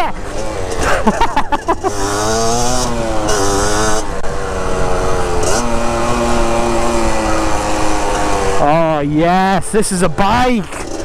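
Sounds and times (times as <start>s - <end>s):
two-stroke dirt bike engine revving: 0.0s - 11.0s.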